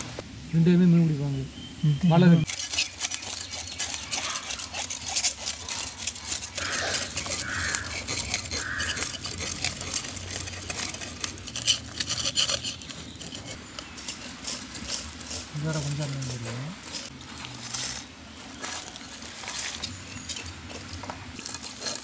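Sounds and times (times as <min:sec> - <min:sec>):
knives scraping fish scales: 0:02.4 - 0:22.0.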